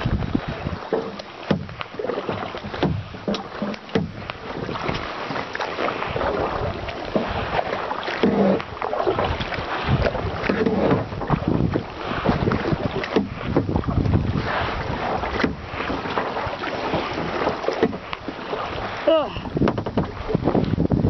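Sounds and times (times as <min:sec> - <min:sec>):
wind buffeting the microphone: 0:00.0 - 0:05.3, 0:05.9 - 0:21.0
water splashing around a kayak: 0:00.0 - 0:21.0.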